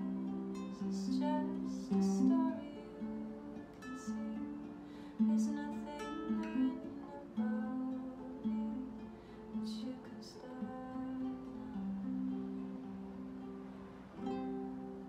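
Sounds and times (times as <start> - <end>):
acoustic guitar strummed slowly: 0.0 - 15.0.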